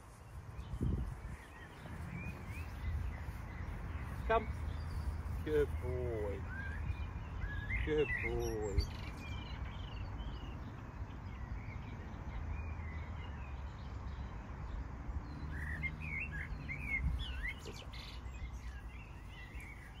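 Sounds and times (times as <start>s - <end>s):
birds chirping and whistling: 0.0s - 14.4s, 15.3s - 20.0s.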